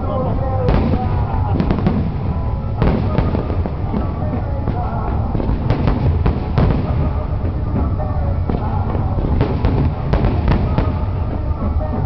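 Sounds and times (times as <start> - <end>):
distant firework rumble: 0.0 - 12.0
firework cracking reports: 0.0 - 12.0
music playing: 0.0 - 12.0.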